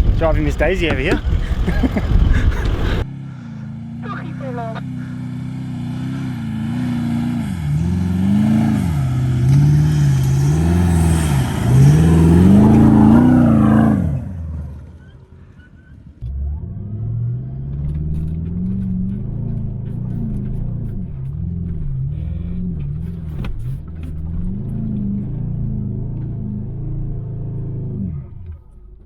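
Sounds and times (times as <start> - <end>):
engine revving in sand: 0.0 - 29.0.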